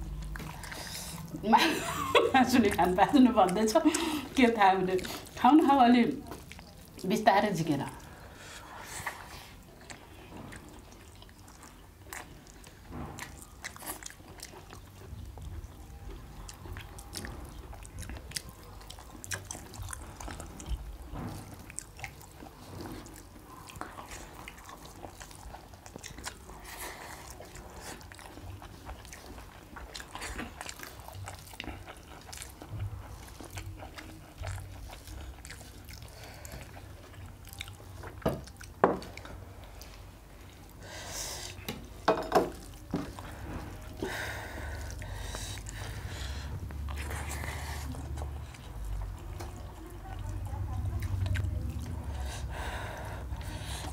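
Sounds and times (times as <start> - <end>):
close-up chewing: 0.0 - 53.9.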